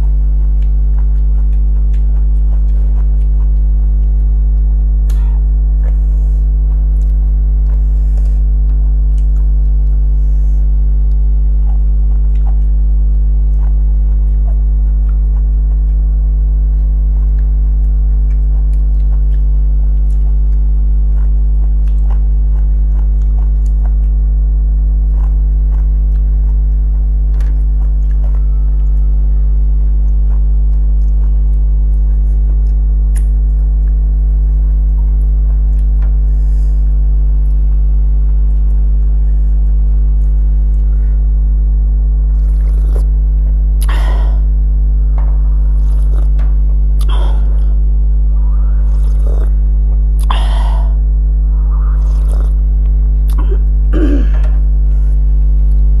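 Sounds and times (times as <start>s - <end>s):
chewing sounds: 0.0s - 53.7s
mains hum: 0.0s - 56.0s.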